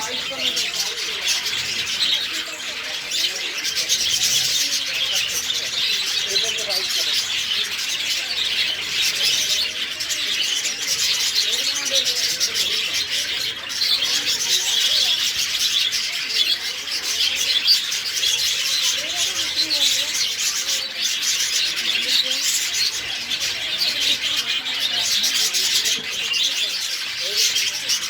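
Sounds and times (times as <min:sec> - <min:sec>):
birds chirping: 0:00.0 - 0:28.0
birds cooing: 0:00.0 - 0:28.0.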